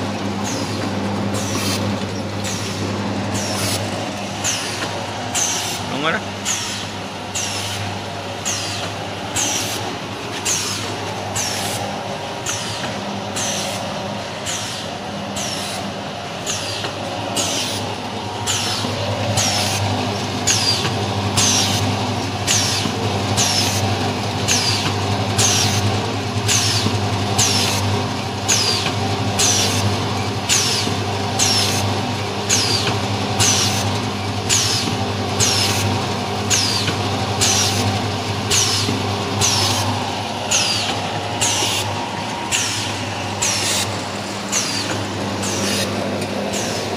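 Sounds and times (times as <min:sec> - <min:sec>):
steady motor hum: 0:00.0 - 0:46.9.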